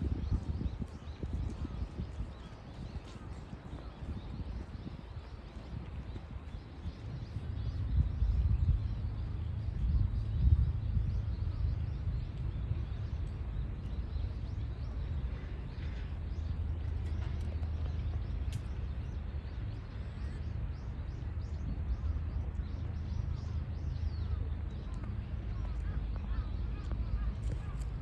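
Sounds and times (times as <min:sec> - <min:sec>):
small birds chirping: 0:00.0 - 0:28.0
steady low rumble: 0:00.0 - 0:28.0.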